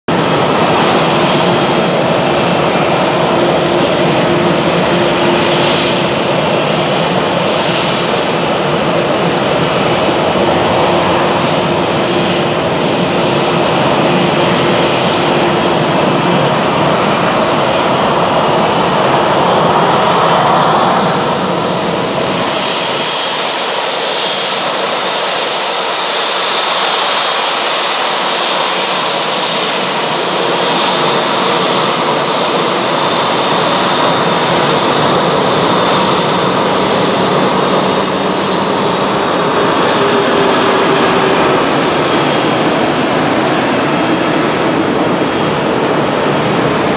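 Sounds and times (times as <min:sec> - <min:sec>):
high engine whine: 0:00.0 - 0:46.9
jet engines running: 0:00.0 - 0:46.9.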